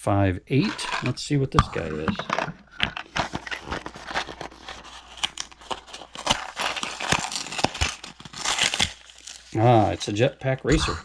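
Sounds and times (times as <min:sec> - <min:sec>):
packaging crinkling: 0:00.7 - 0:10.2.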